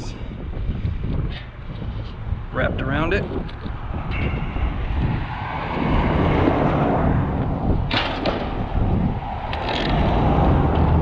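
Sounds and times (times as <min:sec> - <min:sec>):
traffic noise: 0:00.0 - 0:11.0
wind: 0:00.0 - 0:11.0.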